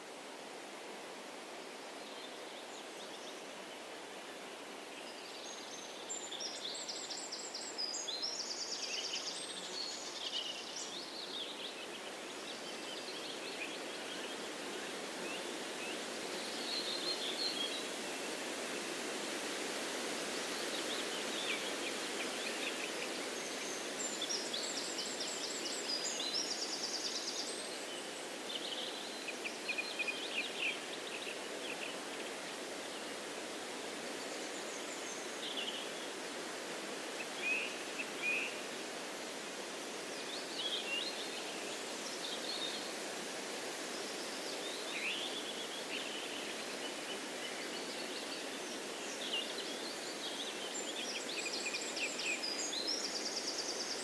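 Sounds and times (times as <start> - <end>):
wind rustling through trees: 0.0 - 54.0.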